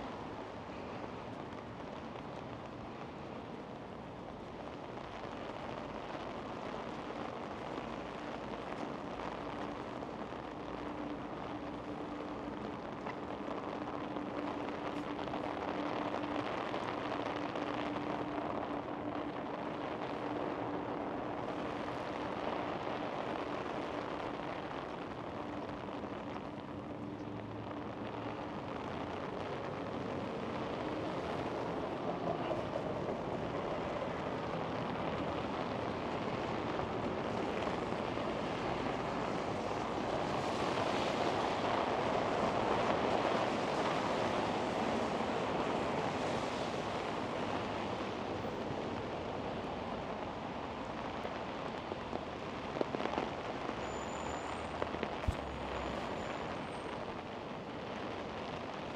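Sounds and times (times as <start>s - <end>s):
traffic on wet road: 0.0s - 58.9s.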